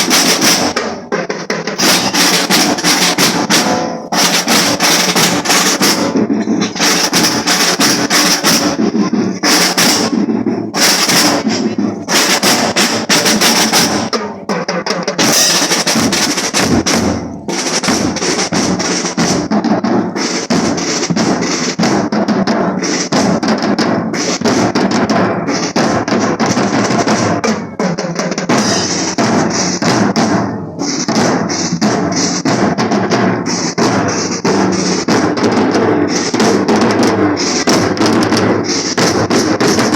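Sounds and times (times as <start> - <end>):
marching drum band: 0.0 - 39.9.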